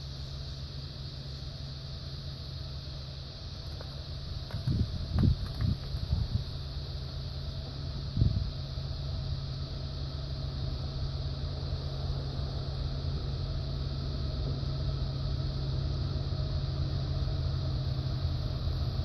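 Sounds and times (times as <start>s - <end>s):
diesel locomotive engines rumbling: 0.0s - 19.0s.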